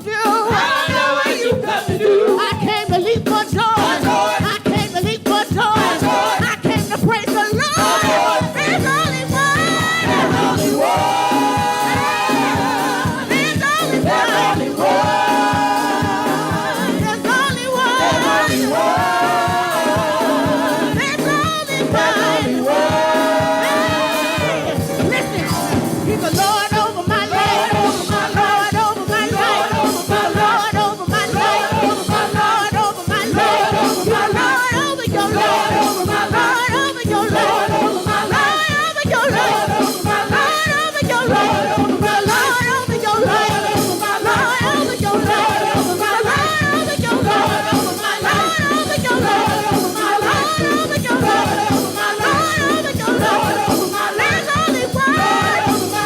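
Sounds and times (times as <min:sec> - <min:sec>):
gospel group singing: 0:00.0 - 0:56.0
steady beat: 0:00.0 - 0:56.0.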